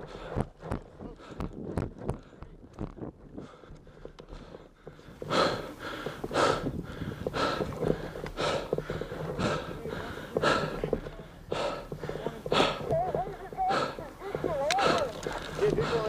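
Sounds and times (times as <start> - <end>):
heavy hard breathing: 0.0 - 16.0.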